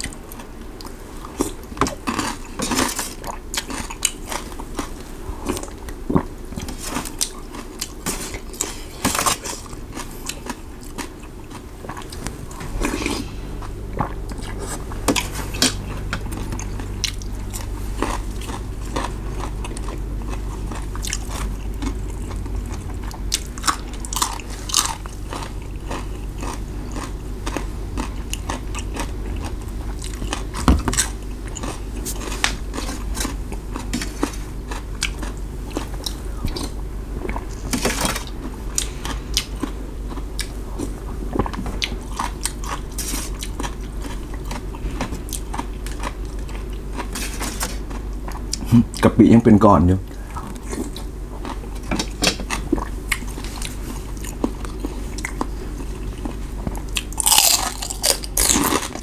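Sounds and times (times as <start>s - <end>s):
person chewing and biting: 0.0s - 49.0s, 50.1s - 59.0s
low steady hum: 0.0s - 59.0s.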